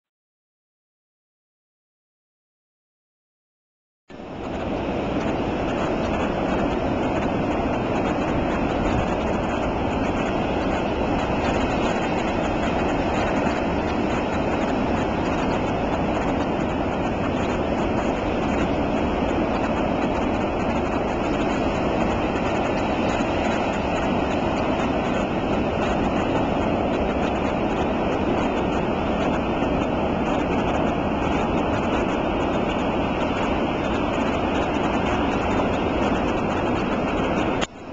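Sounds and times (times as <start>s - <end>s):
ocean surf breaking: 4.1s - 37.9s.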